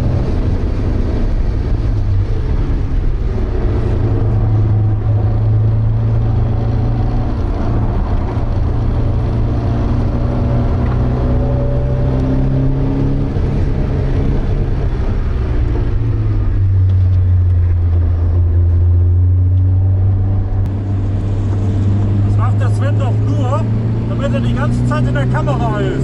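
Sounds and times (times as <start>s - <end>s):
car engine running under load: 0.0s - 26.0s
road noise: 0.0s - 26.0s.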